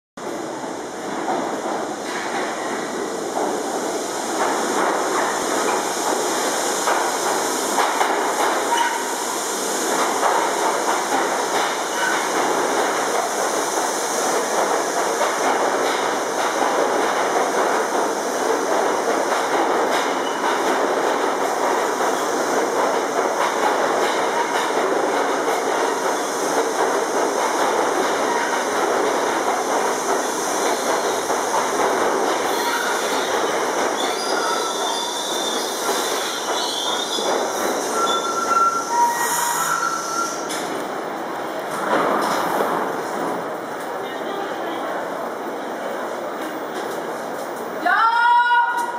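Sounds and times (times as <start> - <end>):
subway train wheels clattering: 0.2 - 48.9.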